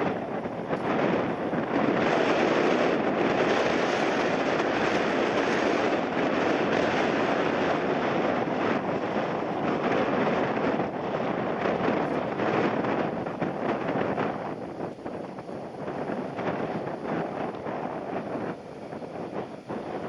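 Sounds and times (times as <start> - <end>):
airliner engine noise: 0.0 - 20.0
wind: 0.0 - 20.0.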